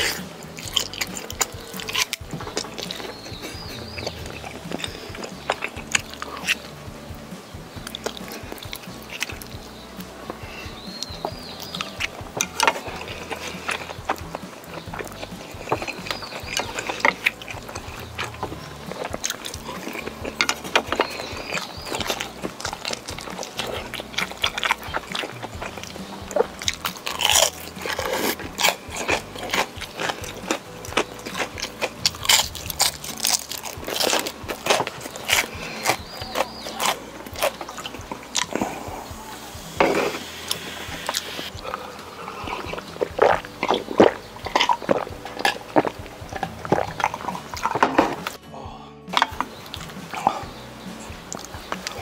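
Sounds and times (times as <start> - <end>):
crunching and chewing fried food: 0.0 - 48.4, 49.1 - 52.0
background music: 0.0 - 52.0.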